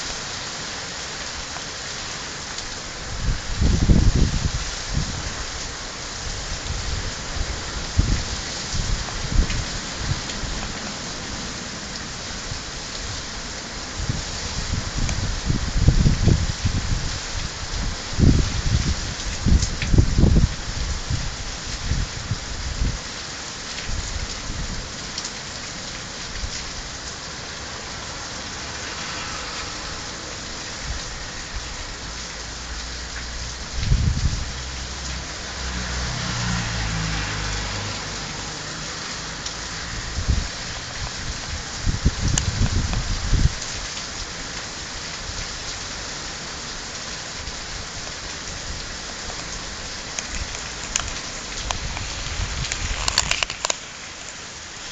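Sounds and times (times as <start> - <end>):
heavy rain on street: 0.0 - 54.9.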